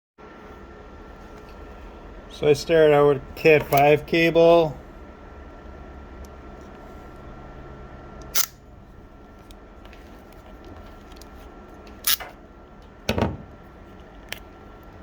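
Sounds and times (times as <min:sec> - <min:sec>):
faint steady hum: 0:00.2 - 0:15.0.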